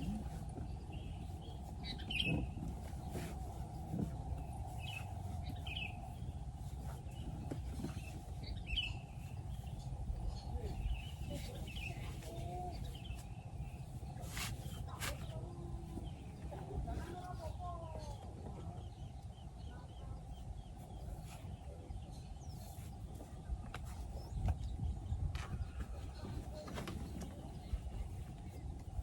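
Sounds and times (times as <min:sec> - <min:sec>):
small birds chirping: 0:00.0 - 0:29.0
steady low rumble: 0:00.0 - 0:29.0.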